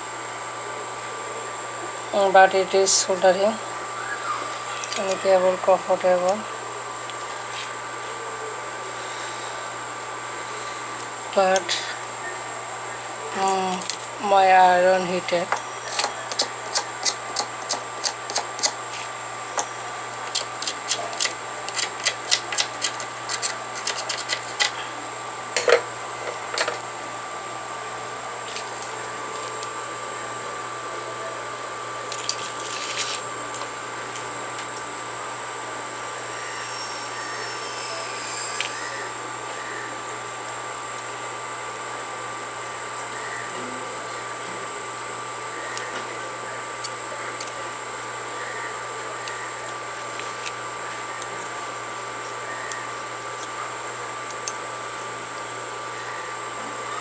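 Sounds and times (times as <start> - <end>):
steady hum and hiss: 0.0 - 57.0.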